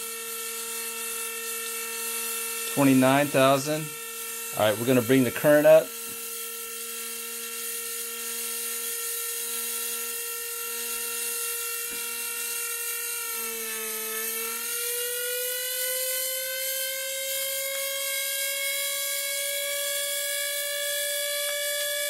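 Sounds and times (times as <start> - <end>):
low buzz: 0.0 - 22.0
motor high whine: 0.0 - 22.0.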